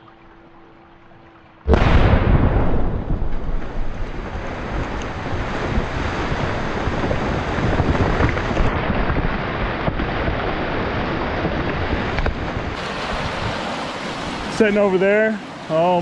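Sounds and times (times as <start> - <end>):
mud and water raining down: 0.0 - 16.0.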